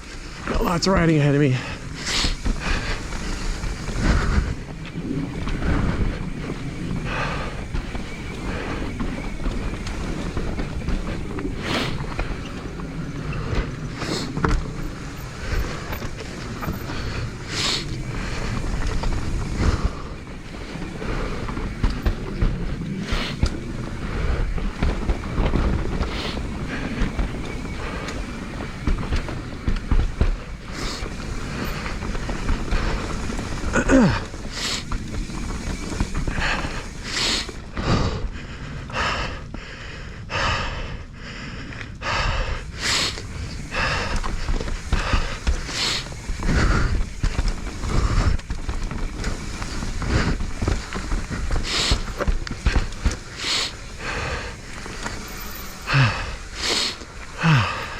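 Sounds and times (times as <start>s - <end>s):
bike knocking and rattling: 0.0s - 40.9s, 41.5s - 57.9s
tyres rumbling over dirt: 0.0s - 41.0s, 41.8s - 57.9s
wind buffeting microphone: 0.0s - 57.9s
rider breathing hard: 1.2s - 57.9s.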